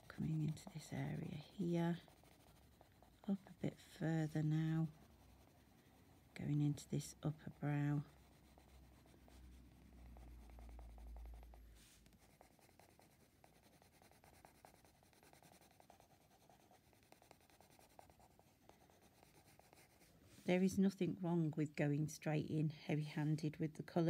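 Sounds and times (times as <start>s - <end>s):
pencil scratching on paper: 0.0s - 20.6s.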